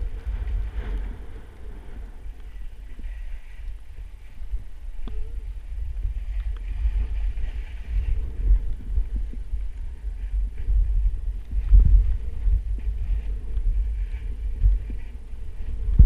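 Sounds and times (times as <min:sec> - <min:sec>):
skis sliding on snow: 0:00.0 - 0:16.0
wind buffeting microphone: 0:00.0 - 0:16.0.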